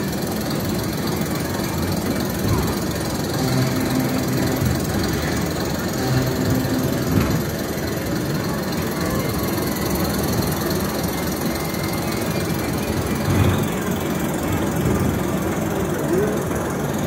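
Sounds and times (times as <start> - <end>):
kiddie ride rumble and rattle: 0.0 - 17.0.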